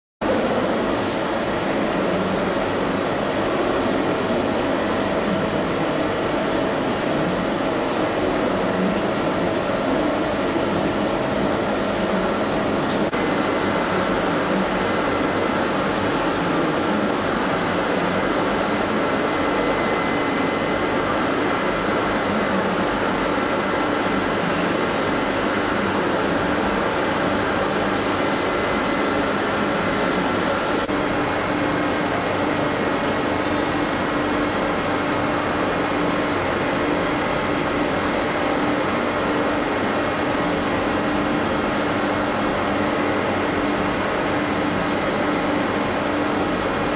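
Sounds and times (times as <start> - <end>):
industrial machinery humming: 0.2 - 46.9.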